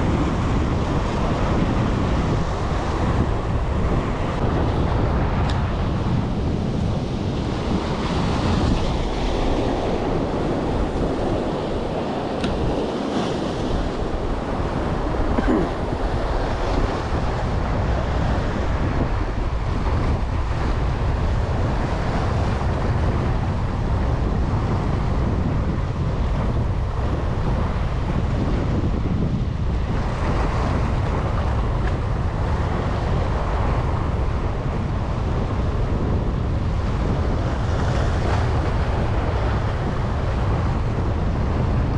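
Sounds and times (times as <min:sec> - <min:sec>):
waves and surf: 0:00.0 - 0:41.9
wind buffeting microphone: 0:00.0 - 0:41.9.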